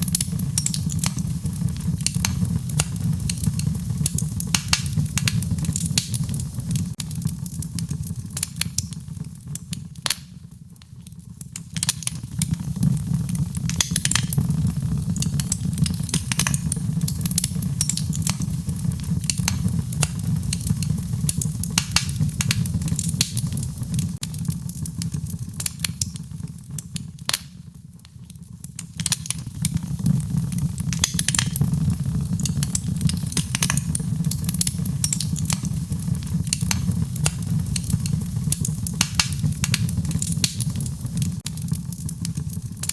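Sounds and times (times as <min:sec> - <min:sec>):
flames rumbling: 0:00.0 - 0:42.9
wood fire crackling and popping: 0:00.0 - 0:42.9.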